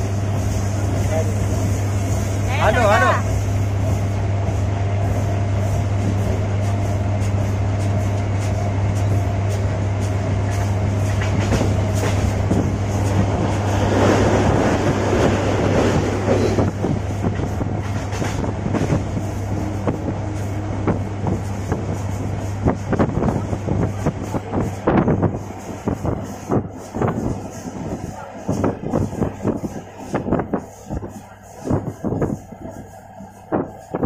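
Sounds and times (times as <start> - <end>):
train carriage rumbling: 0.0 - 34.0.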